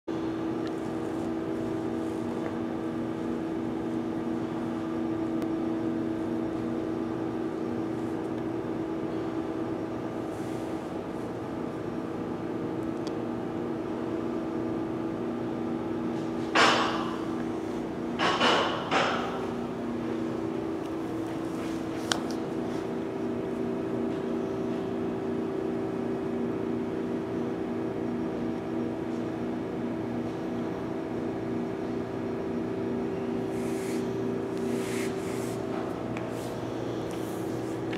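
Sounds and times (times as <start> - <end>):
mechanical hum with low tones: 0.1 - 37.9.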